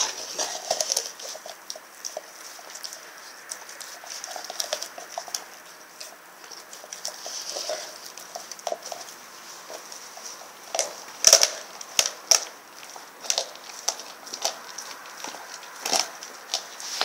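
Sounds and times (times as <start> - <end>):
dog gnawing and licking: 0.0 - 17.0
teeth clicking on bone: 0.0 - 17.0.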